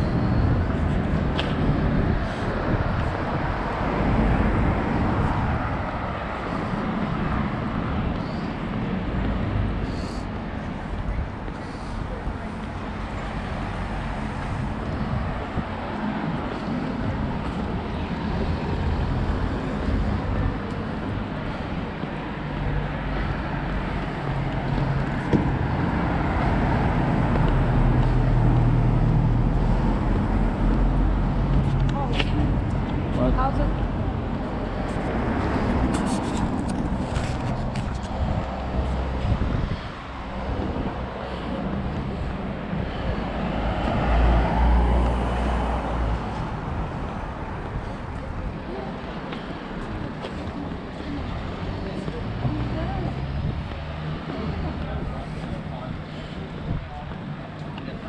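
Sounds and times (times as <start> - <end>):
car approaching on road: 0.0 - 58.0
street traffic rushing: 0.0 - 58.0.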